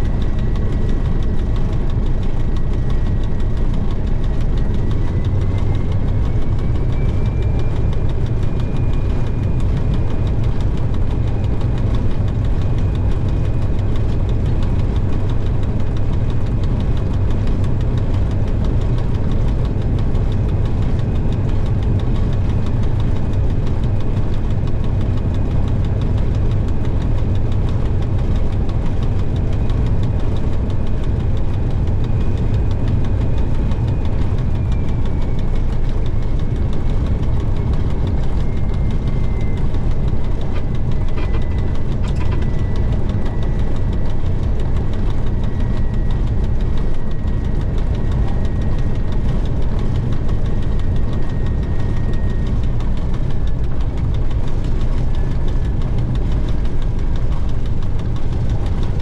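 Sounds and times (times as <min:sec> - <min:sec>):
diesel engine running: 0:00.0 - 0:59.0
faint whine: 0:00.0 - 0:59.0.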